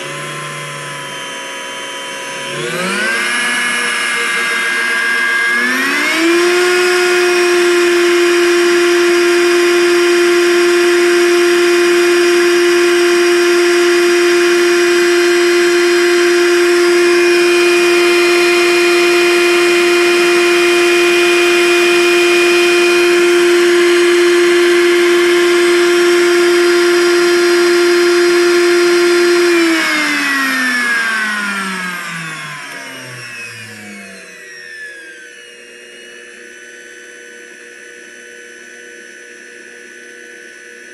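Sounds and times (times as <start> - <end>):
blender motor whine: 0.0 - 40.9.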